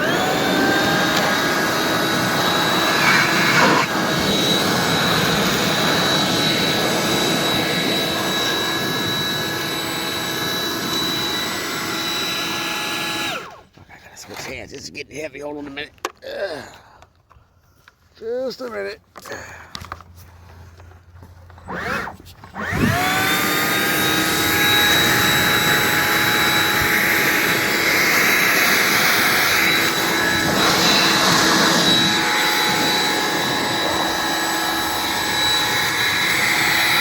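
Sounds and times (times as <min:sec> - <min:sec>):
hand-held blower whining: 0:00.0 - 0:13.8, 0:19.7 - 0:37.0.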